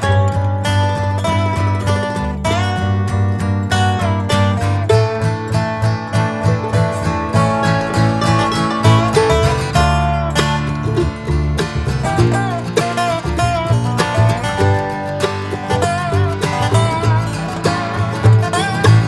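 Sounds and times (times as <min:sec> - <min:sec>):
upbeat acoustic guitar picking: 0:00.0 - 0:19.0.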